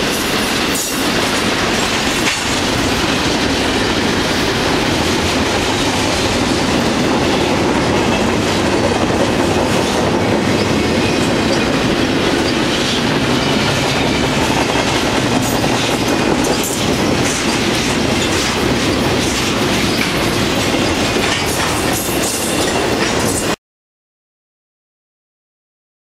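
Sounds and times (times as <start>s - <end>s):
train rumbling past: 0.0s - 23.6s
wheels clacking over rail joints: 0.0s - 23.6s.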